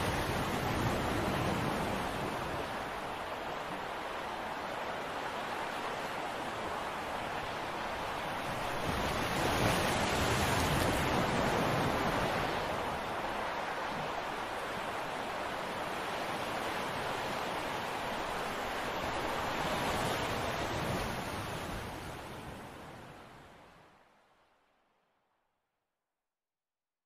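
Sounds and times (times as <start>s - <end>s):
waves washing onto beach: 0.0s - 24.5s.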